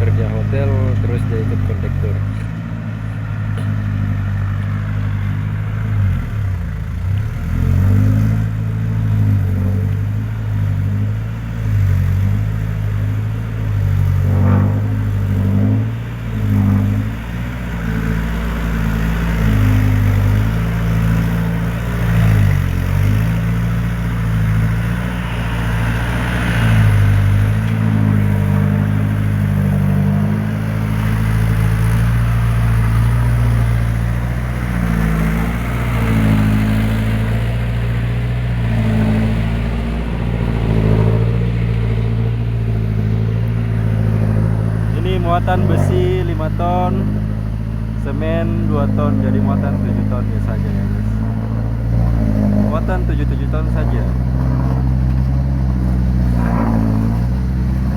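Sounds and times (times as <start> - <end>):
truck diesel engine labouring: 0.0 - 57.9.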